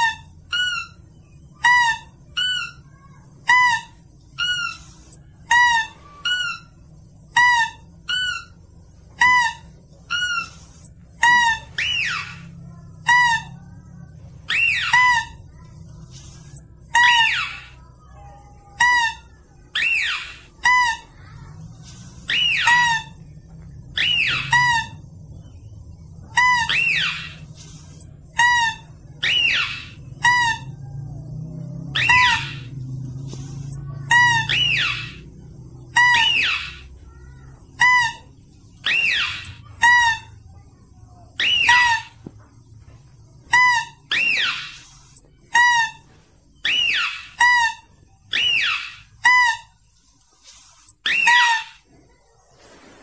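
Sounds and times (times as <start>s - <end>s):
shrill squeaking lure call: 0.0s - 13.8s, 14.4s - 25.4s, 26.0s - 31.0s, 31.8s - 32.8s, 33.5s - 40.6s, 41.3s - 42.2s, 43.5s - 49.9s, 50.5s - 51.9s.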